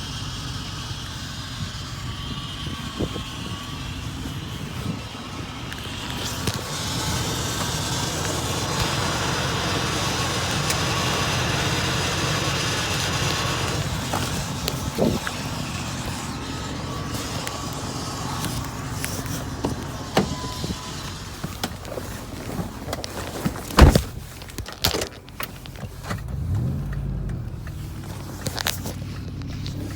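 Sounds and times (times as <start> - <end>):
car engine running: 0.0 - 29.9.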